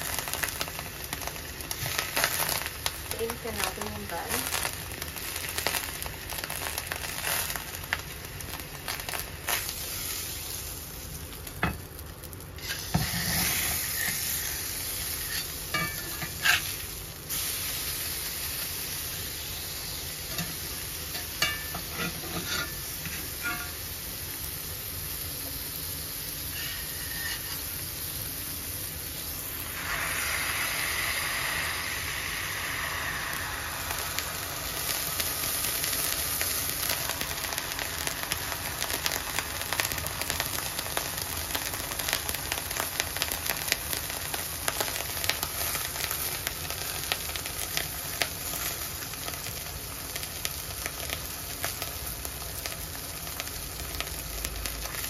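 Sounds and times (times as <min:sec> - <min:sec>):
burger patty sizzling: 0:00.0 - 0:55.0.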